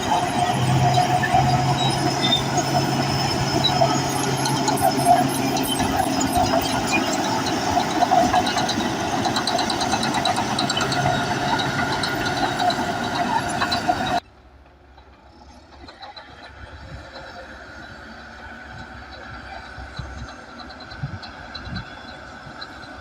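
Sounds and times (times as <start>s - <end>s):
bulldozer diesel engine under load: 0.0s - 23.0s
steel tracks clanking and squealing: 0.0s - 23.0s.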